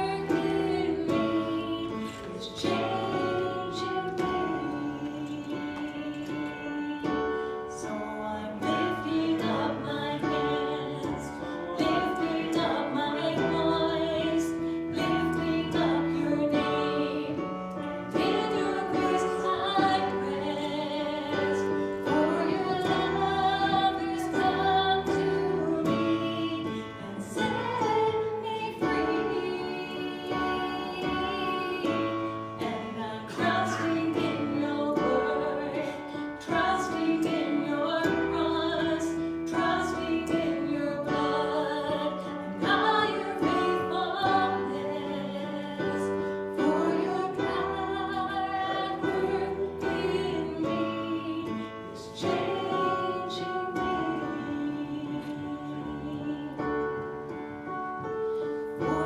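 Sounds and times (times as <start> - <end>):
instrumental accompaniment: 0.0 - 59.0
woman singing: 0.0 - 59.0.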